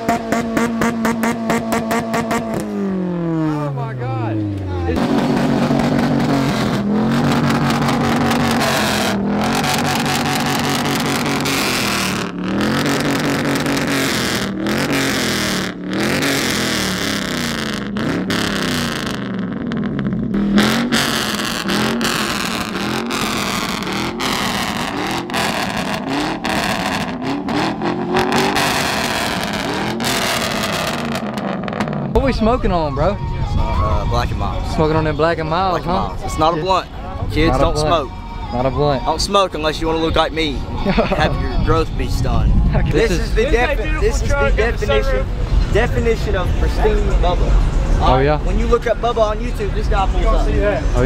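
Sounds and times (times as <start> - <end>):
truck engines revving: 0.0 - 51.0.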